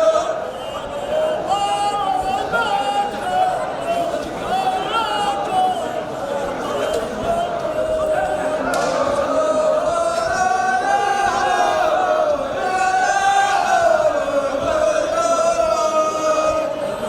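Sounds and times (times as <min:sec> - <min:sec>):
wordless chanted vocals: 0:00.0 - 0:17.0.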